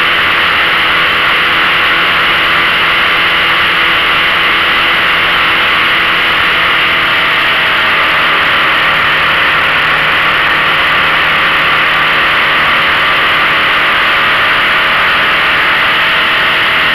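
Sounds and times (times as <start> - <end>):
outboard motor running: 0.0 - 16.9.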